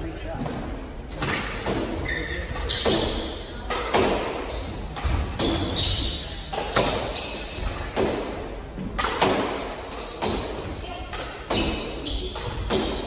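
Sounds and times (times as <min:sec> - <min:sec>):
shoes squeaking on hardwood floor: 0:00.2 - 0:03.7, 0:04.3 - 0:13.0
squash ball hitting racquets and walls: 0:00.2 - 0:13.0.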